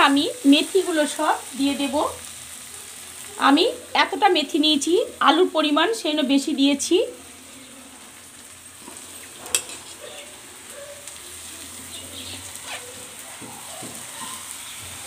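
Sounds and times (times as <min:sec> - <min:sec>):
spices sizzling in pan: 0:00.0 - 0:15.0.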